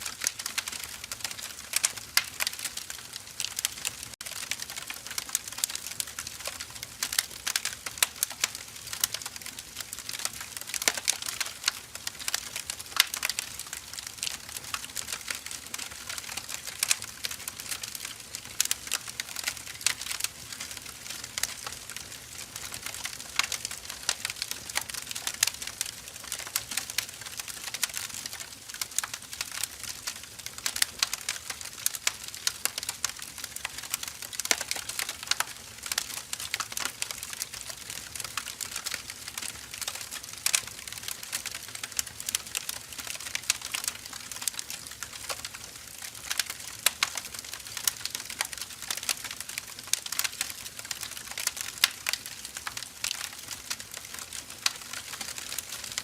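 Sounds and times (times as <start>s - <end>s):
logs burning with crackles: 0.0s - 56.0s.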